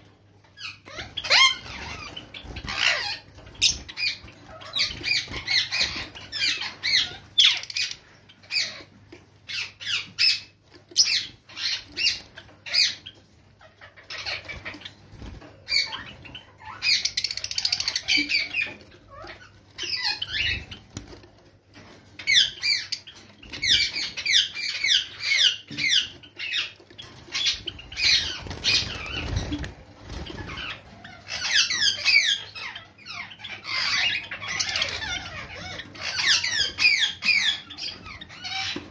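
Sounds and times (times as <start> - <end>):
sparrows chirping: 0.5 - 38.9.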